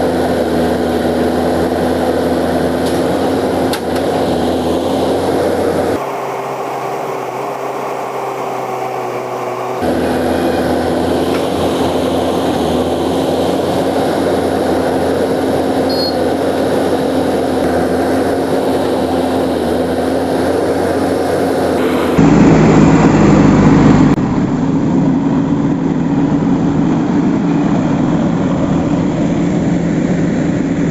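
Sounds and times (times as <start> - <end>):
engine droning: 0.0 - 30.9.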